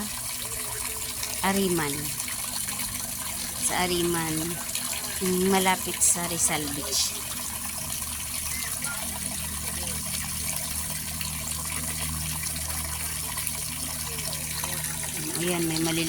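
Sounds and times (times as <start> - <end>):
water gushing from outlet: 0.0 - 16.0.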